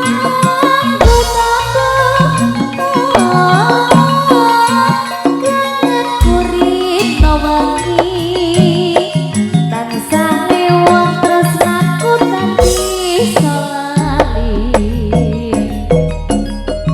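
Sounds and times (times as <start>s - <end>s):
sliding melodic lead over beat: 0.0s - 16.9s.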